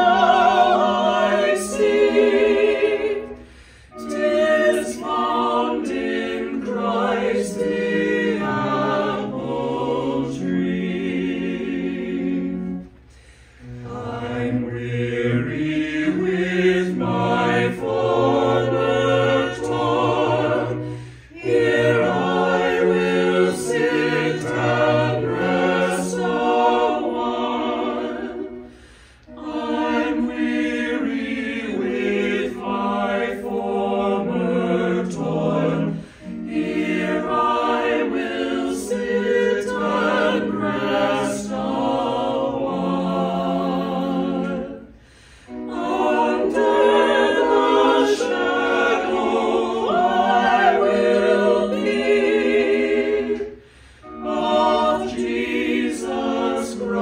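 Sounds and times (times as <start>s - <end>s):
choir singing unaccompanied: 0.0s - 57.0s.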